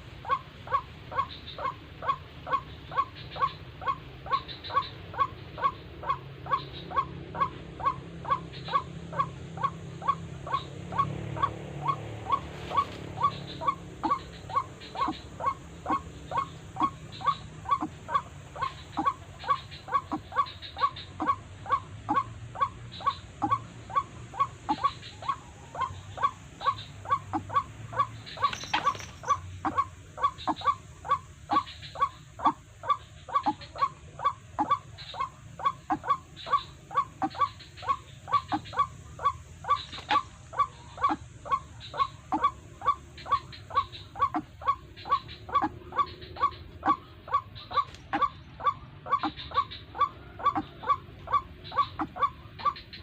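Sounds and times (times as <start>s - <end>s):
bird croaking calls: 0.0s - 53.0s.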